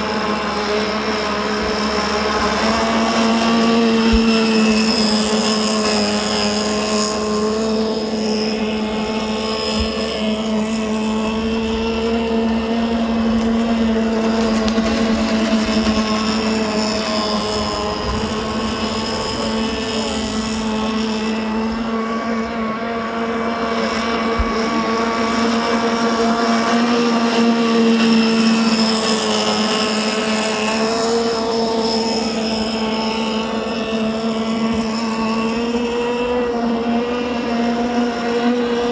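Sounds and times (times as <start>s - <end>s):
high-pitched two-stroke engine buzz: 0.0s - 38.9s.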